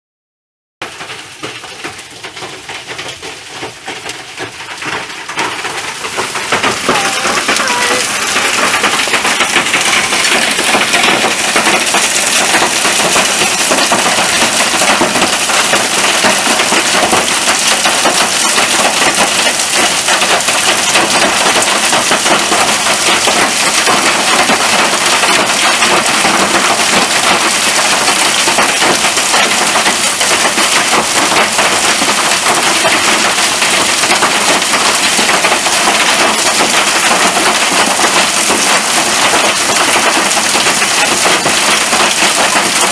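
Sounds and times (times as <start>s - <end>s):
heavy rain on hard surfaces: 0.8s - 42.9s.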